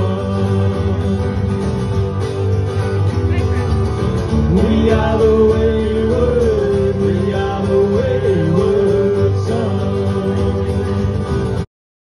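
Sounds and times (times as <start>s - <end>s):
acoustic guitar: 0.0s - 11.7s
country band music: 0.0s - 11.7s.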